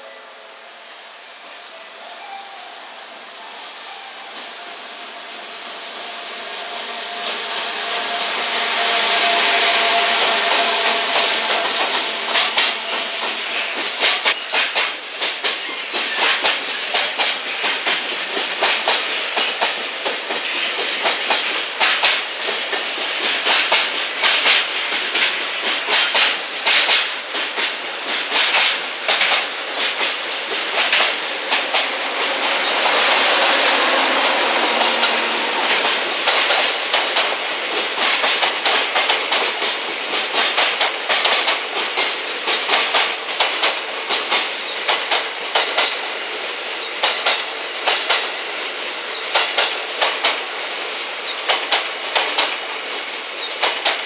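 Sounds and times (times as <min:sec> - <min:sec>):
train wheels clacking over rail joints: 0:07.2 - 0:54.0.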